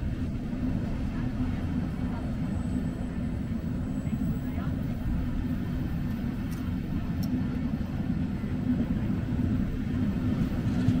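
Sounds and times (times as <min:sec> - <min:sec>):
constant hum: 0:00.0 - 0:11.0
train rumble: 0:00.0 - 0:11.0.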